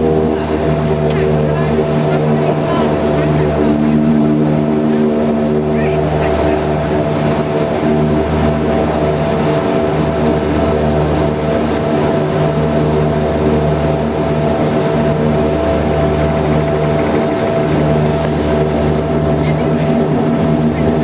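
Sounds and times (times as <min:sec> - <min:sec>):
turboprop engines humming: 0:00.0 - 0:21.0.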